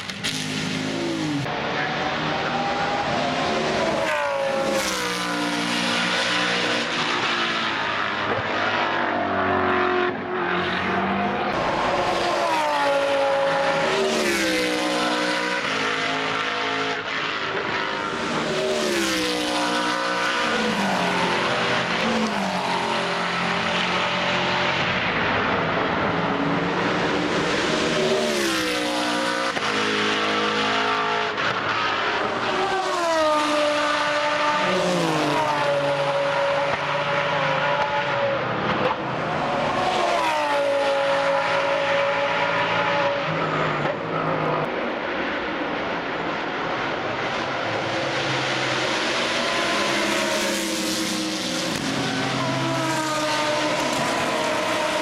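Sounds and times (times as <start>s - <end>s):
race cars passing at speed: 0.0s - 55.0s.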